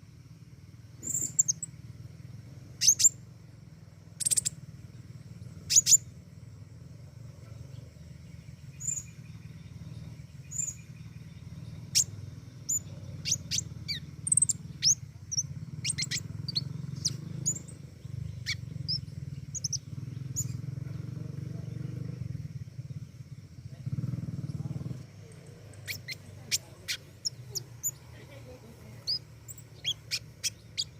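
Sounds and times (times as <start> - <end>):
steady low hum: 0.0 - 30.9
songbird chirping: 0.2 - 30.9.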